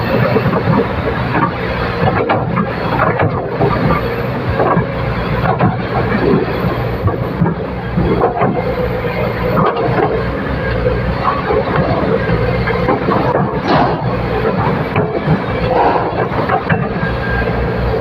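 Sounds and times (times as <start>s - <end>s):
machine knocks and clanks: 0.0s - 10.4s, 11.1s - 17.6s
excavator diesel engine running: 0.0s - 18.0s.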